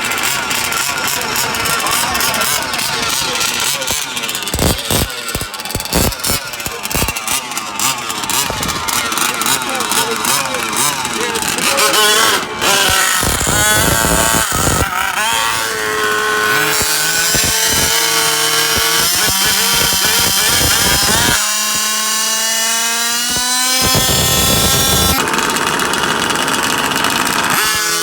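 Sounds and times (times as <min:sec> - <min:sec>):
small engines revving hard: 0:00.0 - 0:28.0.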